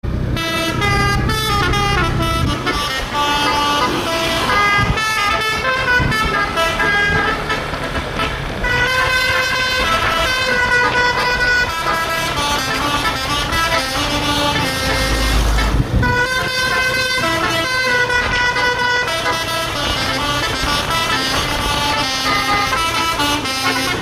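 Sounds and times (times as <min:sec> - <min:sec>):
multi-tone bus horn tune: 0:00.1 - 0:24.0.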